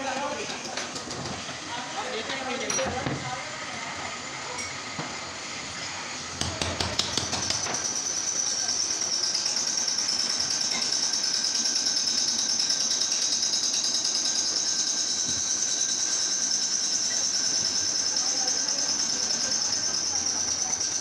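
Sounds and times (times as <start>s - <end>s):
workshop machine whining: 0.0s - 21.0s.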